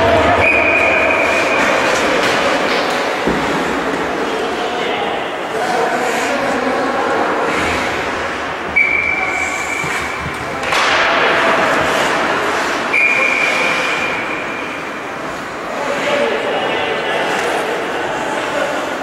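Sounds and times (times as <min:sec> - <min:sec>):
broad noise: 0:00.0 - 0:19.0.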